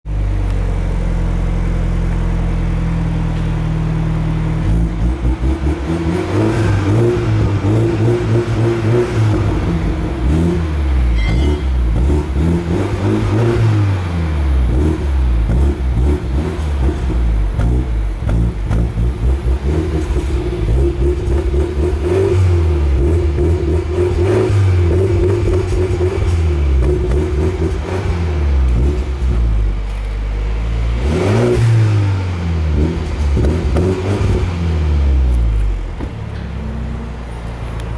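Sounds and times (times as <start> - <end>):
car engine idling and revving: 0.0 - 37.9.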